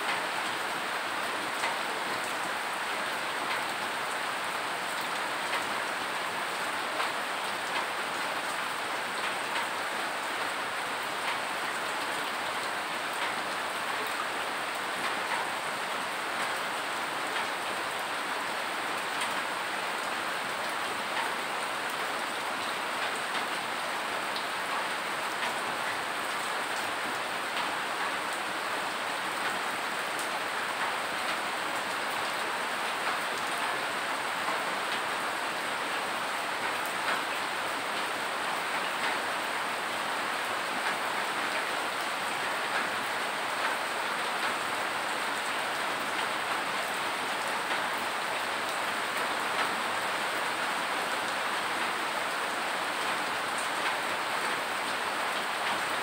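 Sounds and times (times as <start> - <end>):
rain on concrete: 0.0 - 56.0.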